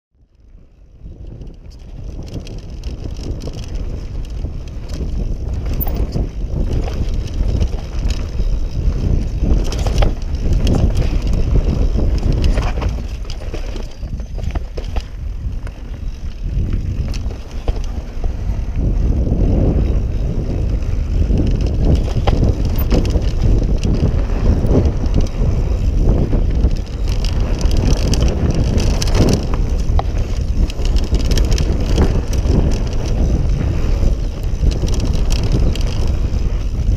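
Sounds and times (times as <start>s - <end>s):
bike clicks and rattles: 0.2s - 36.9s
bike tyres rumbling over dirt: 0.2s - 36.9s
wind buffeting microphone: 0.2s - 36.9s.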